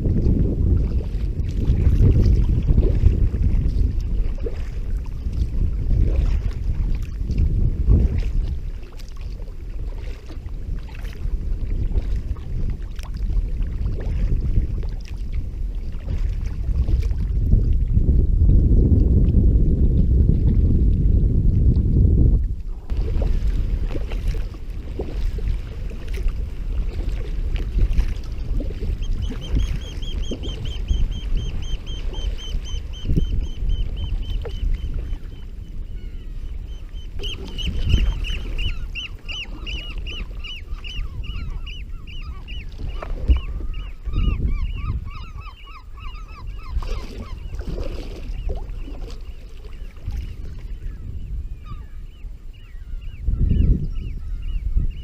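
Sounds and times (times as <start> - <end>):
low wind: 0.0 - 55.0
water rumble: 0.0 - 55.0.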